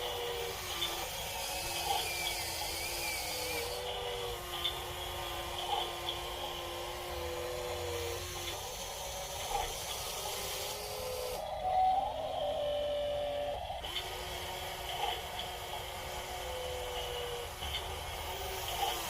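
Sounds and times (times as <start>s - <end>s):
small electric motors whining: 0.0s - 19.0s.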